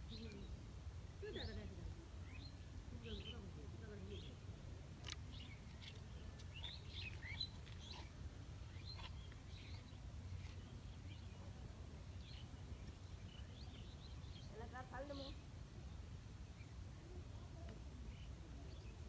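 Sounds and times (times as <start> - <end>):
low outdoor rumble: 0.0 - 19.0
small birds chirping: 0.0 - 19.0.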